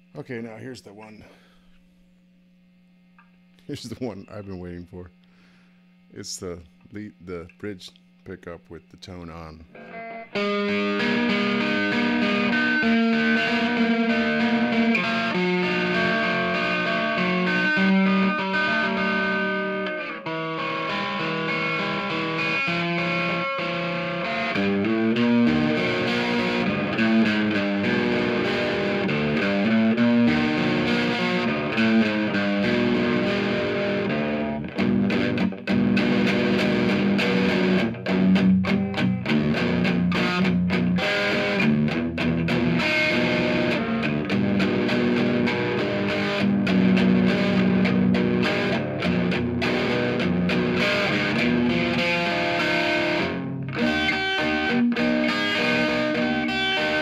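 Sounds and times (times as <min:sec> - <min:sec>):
overdriven electric guitar: 0:08.4 - 0:57.0.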